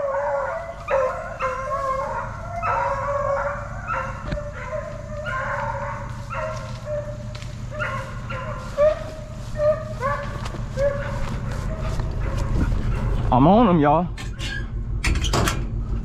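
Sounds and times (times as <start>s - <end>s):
hounds baying: 0.0s - 14.7s
steady low hum: 0.0s - 16.0s.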